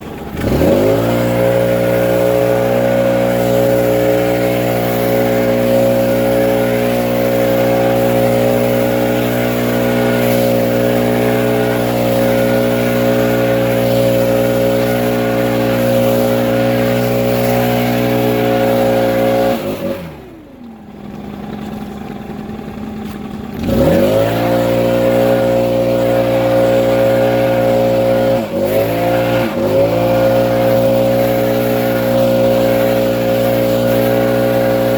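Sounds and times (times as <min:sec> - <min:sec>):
leaf blower running: 0:00.0 - 0:34.9.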